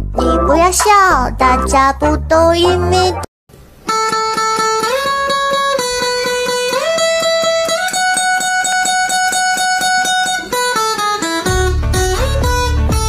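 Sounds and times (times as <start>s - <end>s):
plucked string notes: 0.0s - 3.2s, 3.9s - 13.0s
held melody line: 0.0s - 3.3s, 3.9s - 13.0s.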